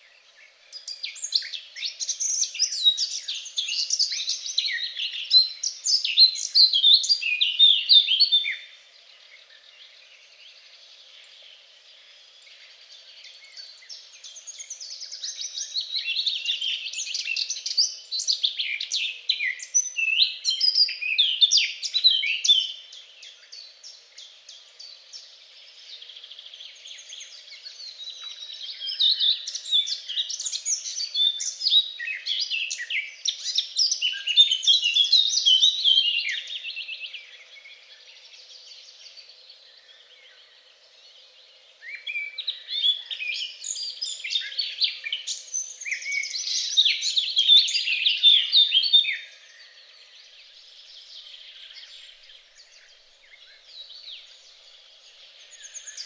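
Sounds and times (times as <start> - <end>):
songbirds chirping rapidly: 0.0 - 56.0.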